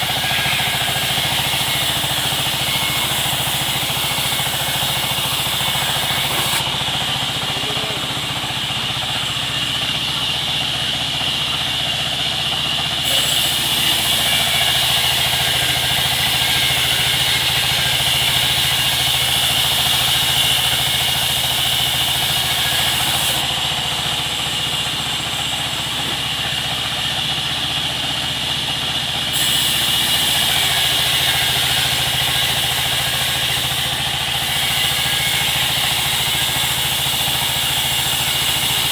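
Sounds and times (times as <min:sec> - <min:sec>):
sawmill machinery whining: 0:00.0 - 0:38.9.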